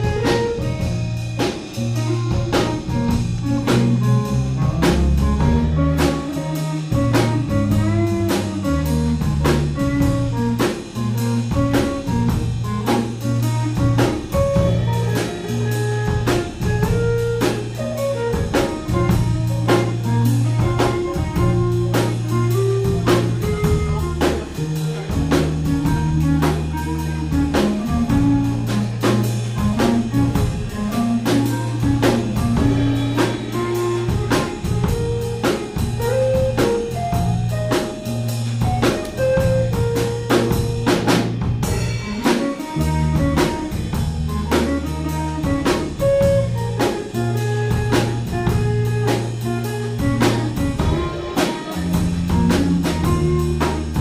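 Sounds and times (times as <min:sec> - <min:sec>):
drum kit beat: 0:00.0 - 0:54.0
electric bass low notes: 0:00.0 - 0:54.0
electric guitar melodic lines: 0:00.0 - 0:54.0.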